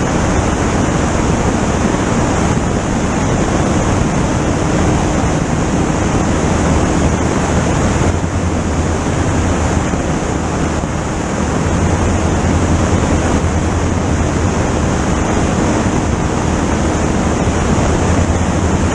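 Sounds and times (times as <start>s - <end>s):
race car engine at full throttle: 0.0s - 18.9s
wind rushing over microphone: 0.0s - 18.9s.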